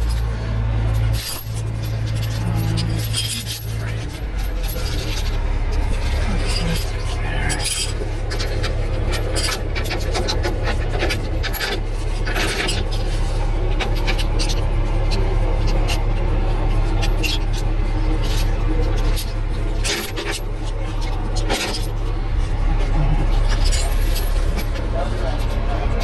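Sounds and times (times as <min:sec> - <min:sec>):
heavy truck engine idling: 0:00.0 - 0:26.0
metallic clinks and rattles: 0:00.0 - 0:26.0.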